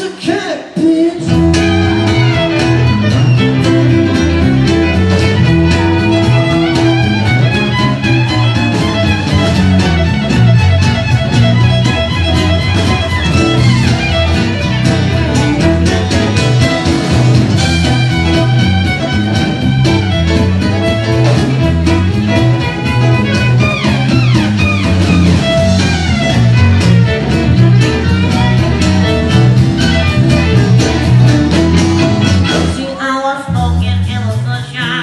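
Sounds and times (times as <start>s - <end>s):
live rock band playing: 0.0s - 35.0s
fiddle lead: 1.2s - 35.0s.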